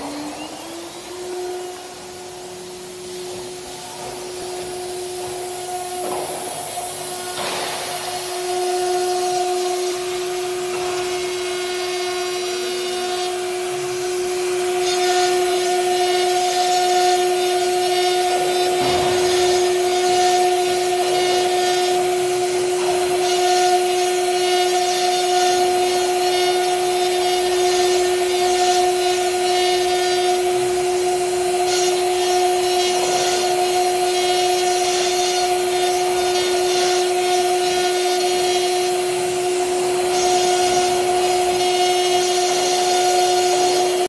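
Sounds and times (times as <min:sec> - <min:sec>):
router spindle whine: 0:00.0 - 0:44.0.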